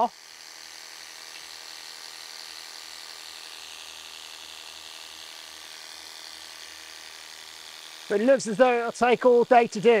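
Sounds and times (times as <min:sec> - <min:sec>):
pressure washer pump buzzing: 0:00.0 - 0:10.0.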